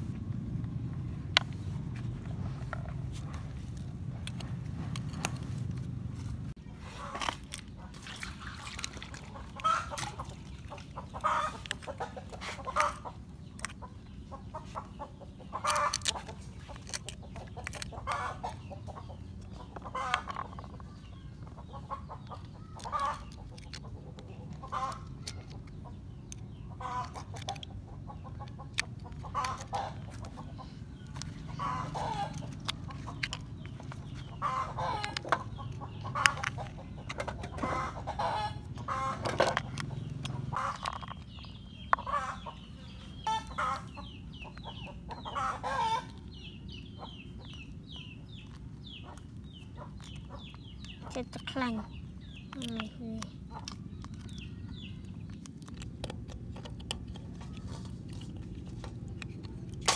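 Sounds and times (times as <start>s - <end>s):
steady low hum: 0.0s - 59.9s
chickens clucking: 1.4s - 59.9s.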